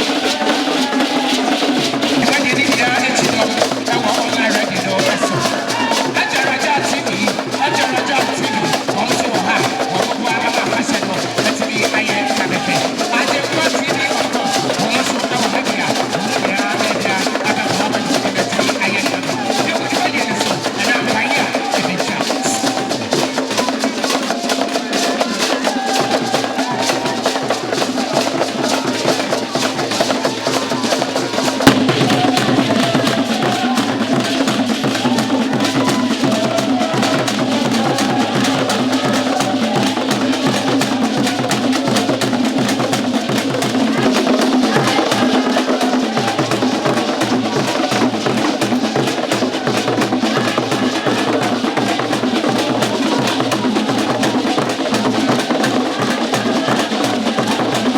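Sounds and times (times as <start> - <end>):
music with fast drumming: 0.0 - 57.9.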